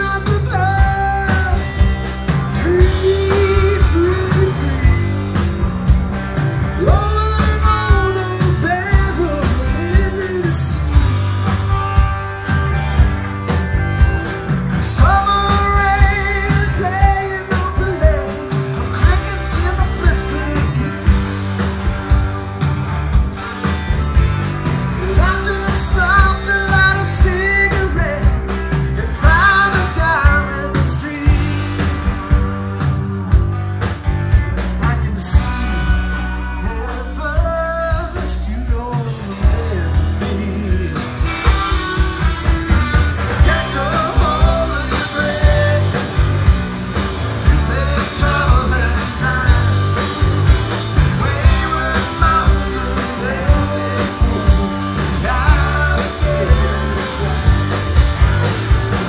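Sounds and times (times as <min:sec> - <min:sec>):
bending electric guitar lines: 0:00.0 - 0:59.0
psychedelic rock band playing: 0:00.0 - 0:59.0.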